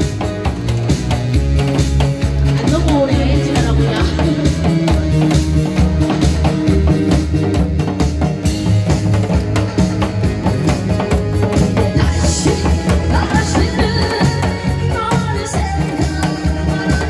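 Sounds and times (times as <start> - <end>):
upbeat band music: 0.0 - 17.0.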